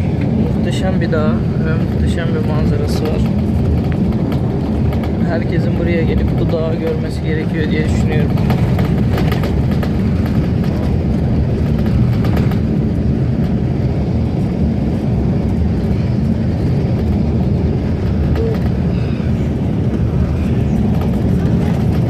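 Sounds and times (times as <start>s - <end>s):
vehicle rumble from inside cabin: 0.0s - 22.0s.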